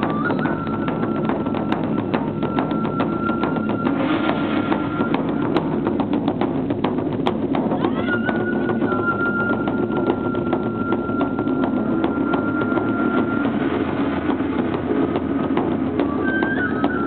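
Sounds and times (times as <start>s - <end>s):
long high held tone: 0.0s - 5.6s, 7.8s - 15.1s, 16.0s - 17.0s
rapid clicking percussion: 0.0s - 17.0s.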